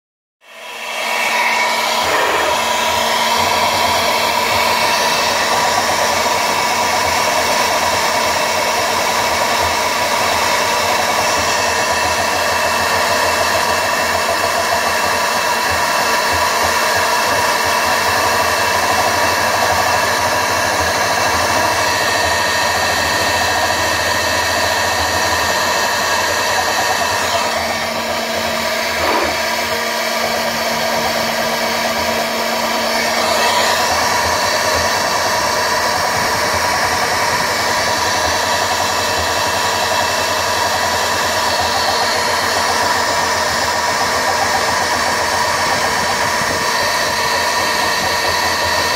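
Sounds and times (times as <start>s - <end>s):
router spindle whirring: 0.4s - 48.9s.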